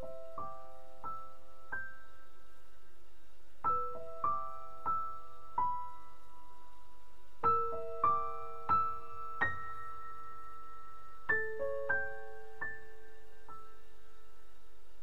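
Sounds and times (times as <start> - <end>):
slow piano notes: 0.0 - 3.0, 3.6 - 15.0.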